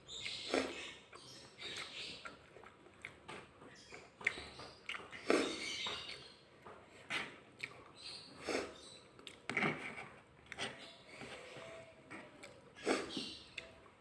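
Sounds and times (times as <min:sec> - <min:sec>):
person chewing: 0:00.2 - 0:06.3, 0:06.9 - 0:11.4, 0:12.1 - 0:13.9.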